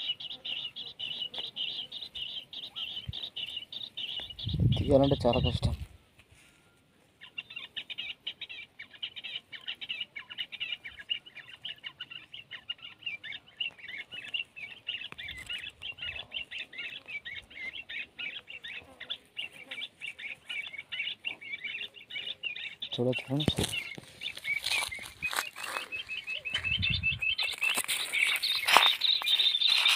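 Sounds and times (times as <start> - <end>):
quail chirping: 0.0 - 29.9.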